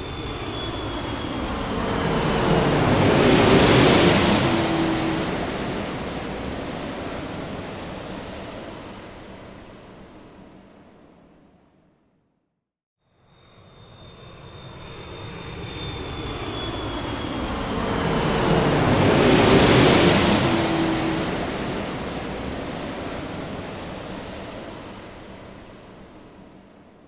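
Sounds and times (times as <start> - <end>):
airplane passing by: 0.0 - 10.3, 13.4 - 26.5.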